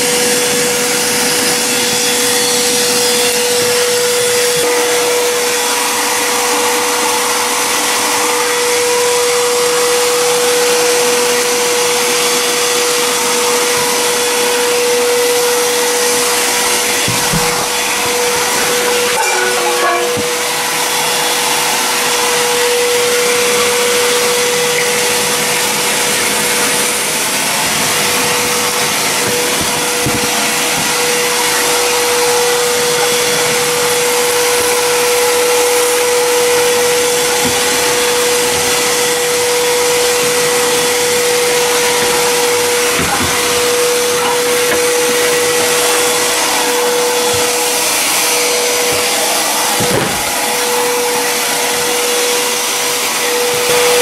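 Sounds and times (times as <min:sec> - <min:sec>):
shop vacuum running: 0:00.0 - 0:54.0.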